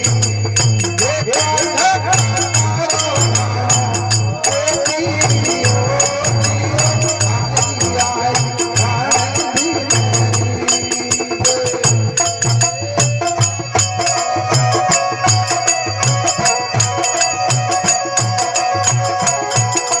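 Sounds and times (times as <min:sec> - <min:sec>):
jingling percussion: 0:00.0 - 0:20.0
low drum beat: 0:00.0 - 0:20.0.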